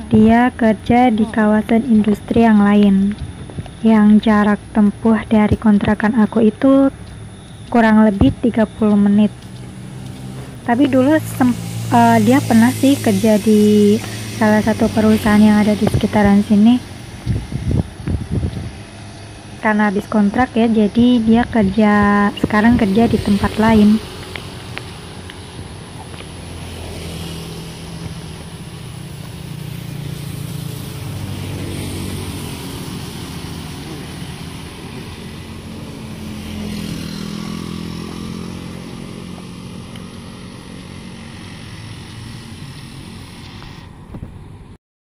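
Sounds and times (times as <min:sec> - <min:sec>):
scooters and motorcycles passing: 0:00.0 - 0:44.8
constant high hiss: 0:00.1 - 0:44.6.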